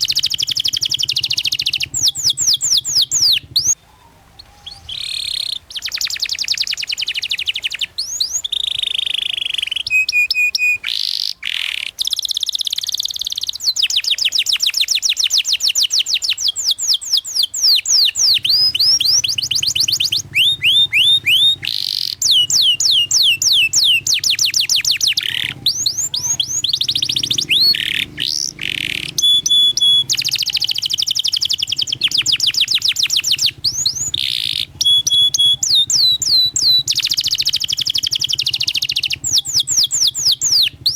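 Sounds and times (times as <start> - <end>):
short held whistles: 0.0 - 3.8, 4.5 - 40.9
canary singing trills: 0.0 - 40.9.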